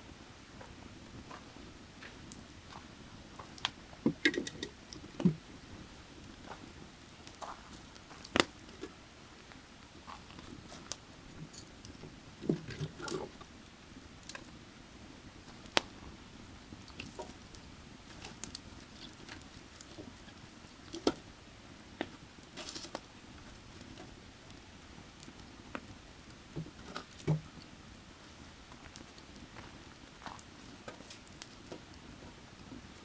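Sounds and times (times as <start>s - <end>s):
firewood crackling and popping: 0.1s - 33.0s.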